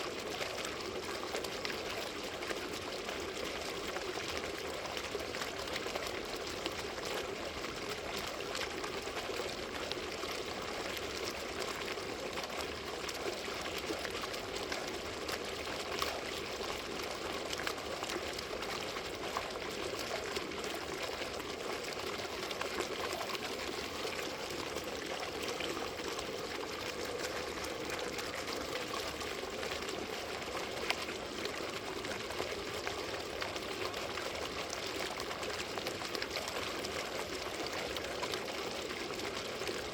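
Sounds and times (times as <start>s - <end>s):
water fountain splashing: 0.0s - 39.9s.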